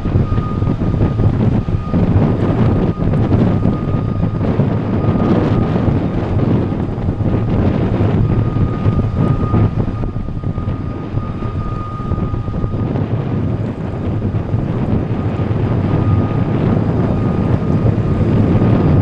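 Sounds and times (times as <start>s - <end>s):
faint steady whine: 0.0s - 19.0s
low rumble of a ship: 0.0s - 19.0s
wind buffeting the microphone: 0.0s - 19.0s.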